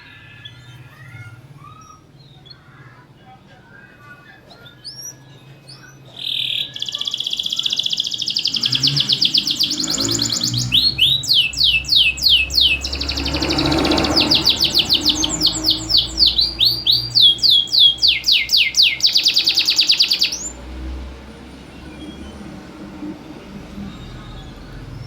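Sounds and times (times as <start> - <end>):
canary singing: 0.0 - 25.0
low background hum: 0.0 - 25.0.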